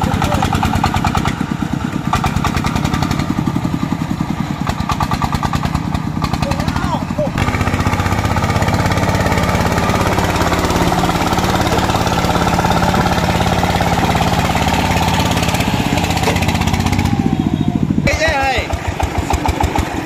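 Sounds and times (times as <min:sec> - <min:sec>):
single-cylinder diesel engine running: 0:00.0 - 0:20.0.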